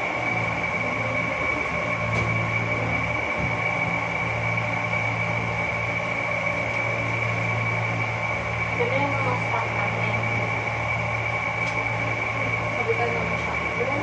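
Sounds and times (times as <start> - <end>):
electric motor humming and whining: 0.0 - 14.0.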